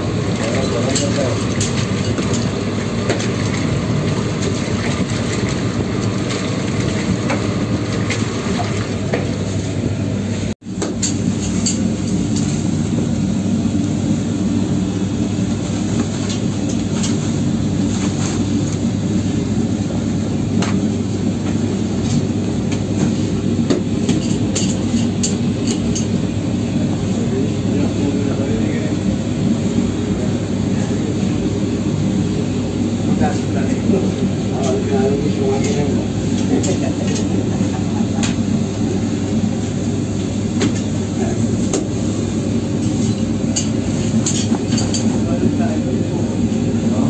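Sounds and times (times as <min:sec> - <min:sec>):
dough mixer droning: 0:00.0 - 0:47.0.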